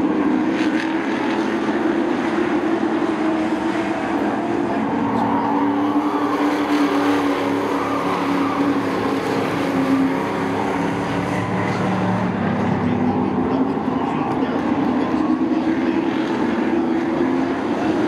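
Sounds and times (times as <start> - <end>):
race truck engines droning: 0.0 - 18.0.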